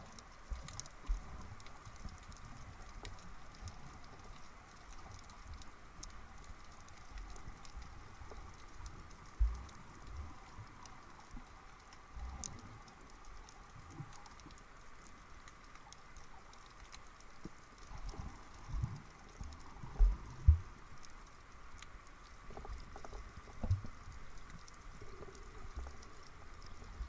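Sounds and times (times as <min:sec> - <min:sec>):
underwater crackle of clicks: 0:00.0 - 0:27.0.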